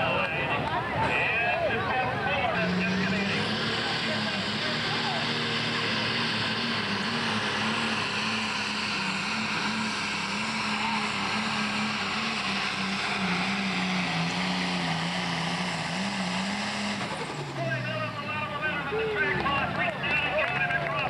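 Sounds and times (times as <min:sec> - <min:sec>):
diesel engine running hard: 0:00.0 - 0:21.0.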